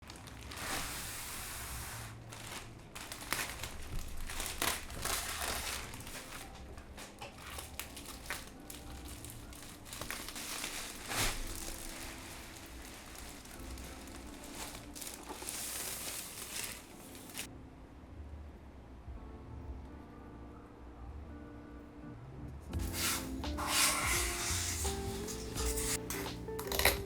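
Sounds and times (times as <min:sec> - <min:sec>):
packaging crinkling and rustling: 0:00.0 - 0:17.5, 0:22.8 - 0:27.0.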